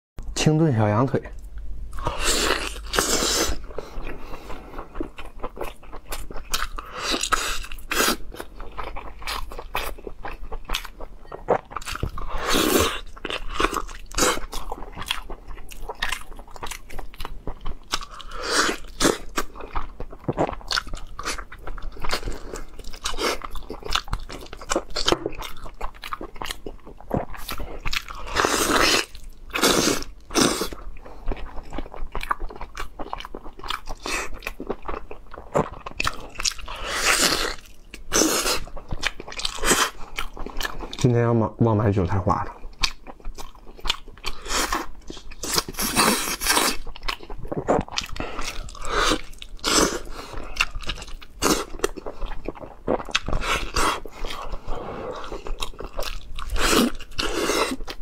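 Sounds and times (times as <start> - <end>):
man chewing and biting meat: 1.4 - 41.0, 42.4 - 58.0.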